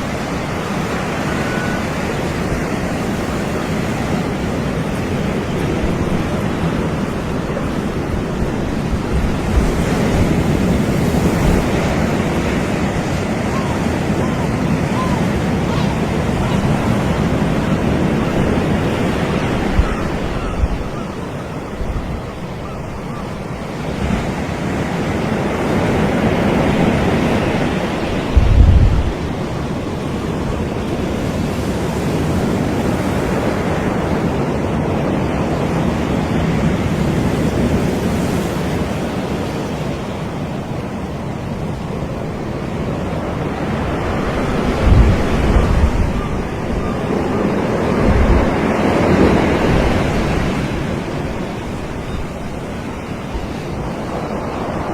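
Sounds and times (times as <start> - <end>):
surf washing onto beach: 0.0 - 54.9
wind buffeting microphone: 0.0 - 54.9.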